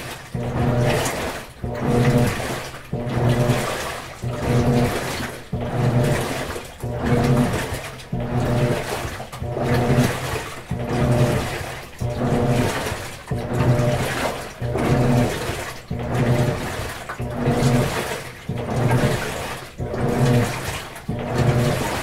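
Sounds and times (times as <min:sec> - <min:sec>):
washing machine motor humming: 0:00.0 - 0:22.0
water swishing: 0:00.0 - 0:22.0.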